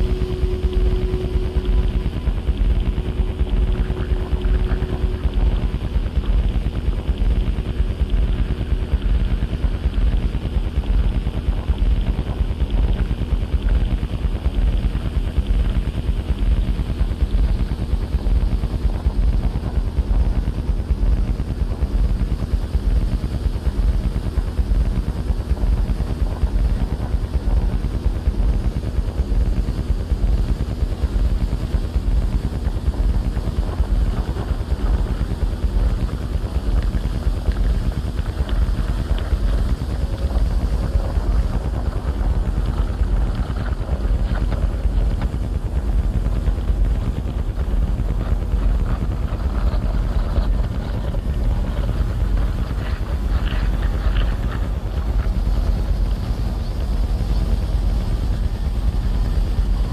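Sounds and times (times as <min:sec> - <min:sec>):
low fluttering electronic drone: 0:00.0 - 0:59.9.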